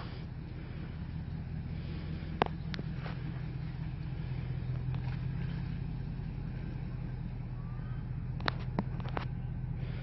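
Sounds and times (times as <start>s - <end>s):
loud engine exhaust running: 0.0s - 10.0s.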